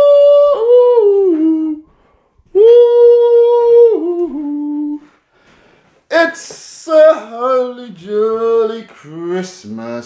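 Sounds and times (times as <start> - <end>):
man singing in high voice: 0.0 - 5.2, 6.1 - 10.0.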